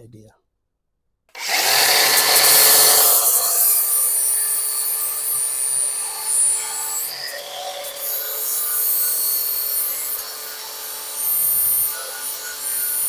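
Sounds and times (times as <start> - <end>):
power tool running: 1.4 - 13.0.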